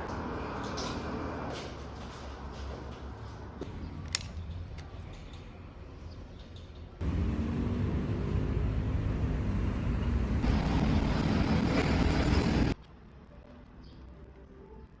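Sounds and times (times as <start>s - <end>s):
vehicle rumbling: 0.0s - 13.4s.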